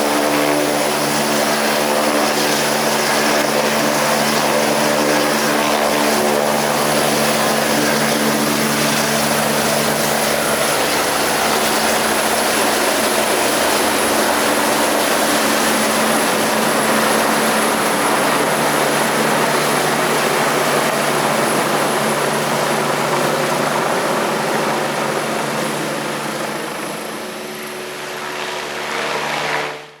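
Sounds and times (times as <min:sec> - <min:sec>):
helicopter rotor and turbine noise: 0:00.0 - 0:30.0.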